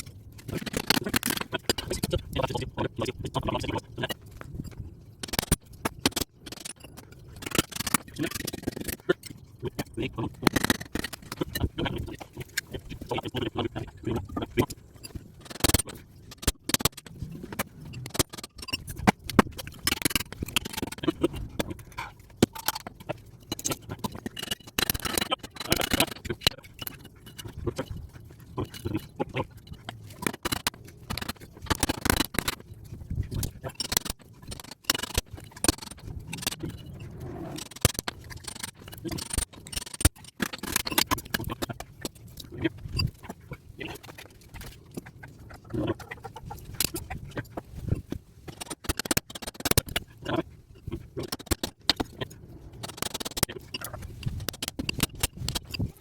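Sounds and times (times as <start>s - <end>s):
metal clicks knocks and scraping: 0.0s - 2.6s, 4.3s - 13.3s, 14.4s - 28.0s, 28.6s - 56.0s.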